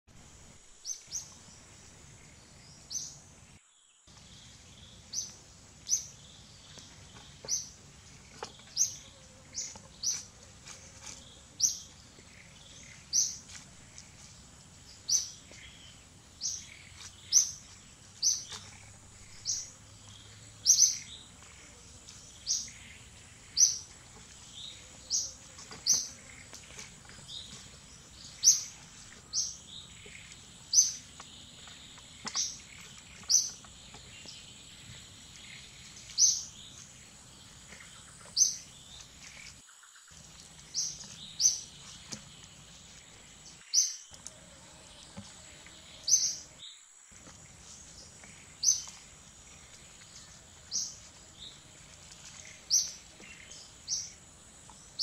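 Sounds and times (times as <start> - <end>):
bird chirping: 0.6 - 55.0.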